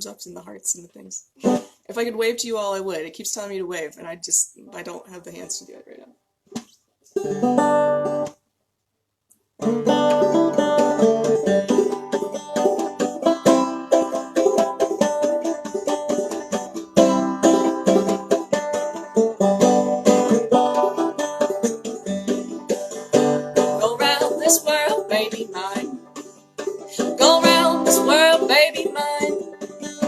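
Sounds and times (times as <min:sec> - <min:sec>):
banjo plucked notes: 0:00.0 - 0:08.4, 0:09.6 - 0:30.0.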